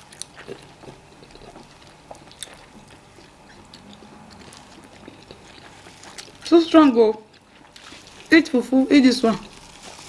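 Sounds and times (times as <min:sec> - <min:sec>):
soft chewing: 0:00.0 - 0:08.7, 0:09.3 - 0:10.0.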